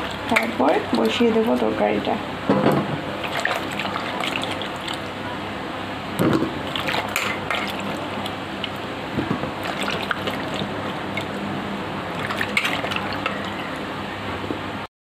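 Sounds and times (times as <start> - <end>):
water sloshing in a pot: 0.0 - 2.1, 2.9 - 5.3, 6.2 - 13.9.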